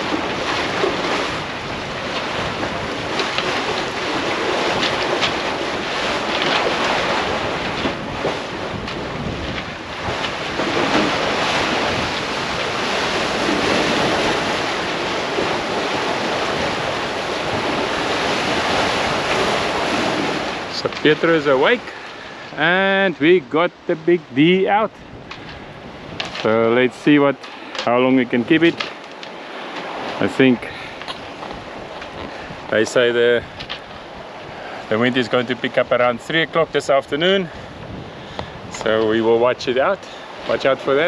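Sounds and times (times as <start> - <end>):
sea water rushing and splashing: 0.0 - 41.0
wind buffeting microphone: 0.0 - 41.0.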